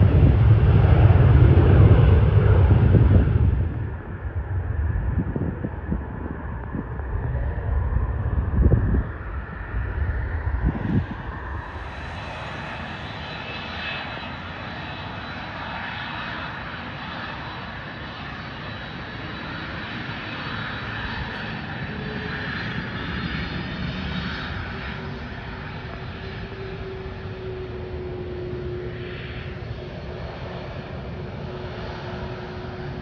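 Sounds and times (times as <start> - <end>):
jet engines running: 0.0 - 33.0.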